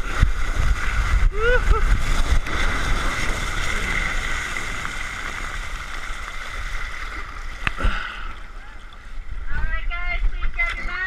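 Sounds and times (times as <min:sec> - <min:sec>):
rushing water: 0:00.0 - 0:11.0
wind: 0:00.0 - 0:11.0.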